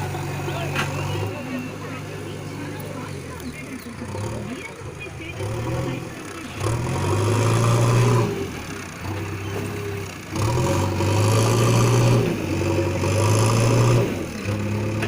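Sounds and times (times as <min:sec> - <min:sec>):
diesel engine revving under load: 0:00.0 - 0:15.0.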